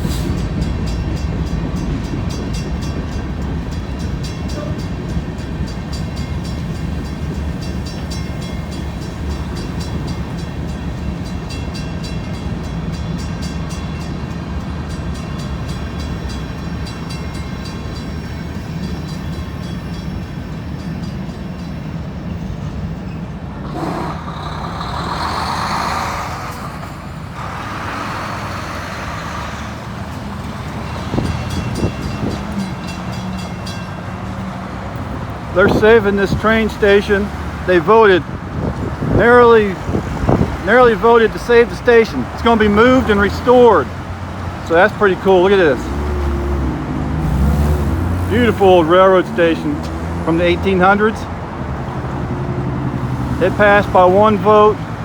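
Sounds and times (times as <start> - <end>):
train cars rumbling past: 0.0 - 55.0.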